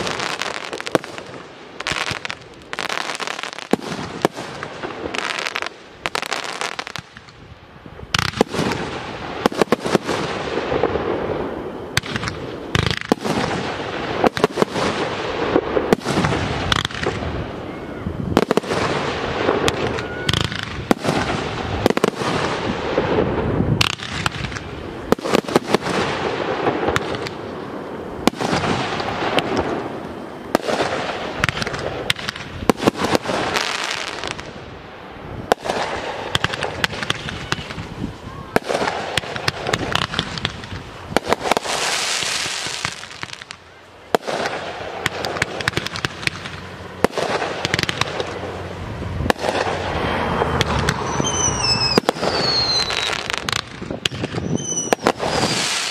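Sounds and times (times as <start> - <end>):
fireworks crackling: 0.0 - 55.9.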